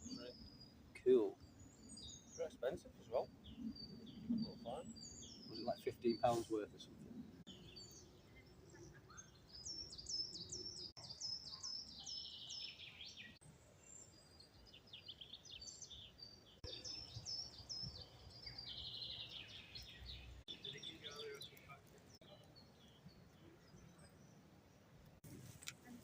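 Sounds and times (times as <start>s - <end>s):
faint outdoor hush: 0.0s - 26.0s
songbird singing: 0.0s - 26.0s.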